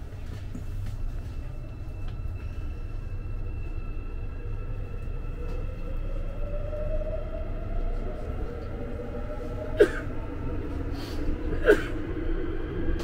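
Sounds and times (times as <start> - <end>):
train low rumble: 0.0 - 13.0
rising whine: 1.0 - 13.0.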